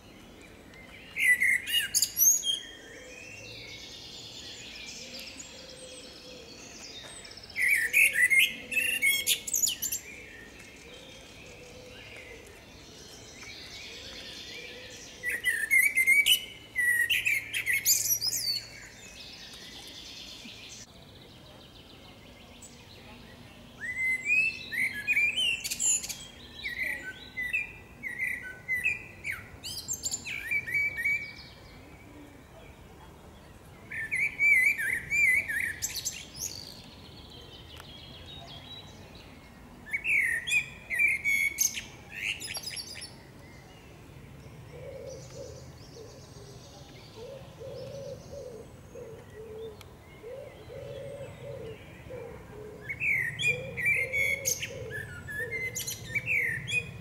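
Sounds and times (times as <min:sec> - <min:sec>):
blackbird singing: 0:00.0 - 0:57.0.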